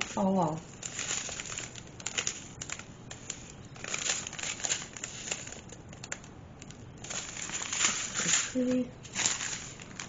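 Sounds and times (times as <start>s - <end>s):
small plastic bags crinkling: 0.0s - 10.0s.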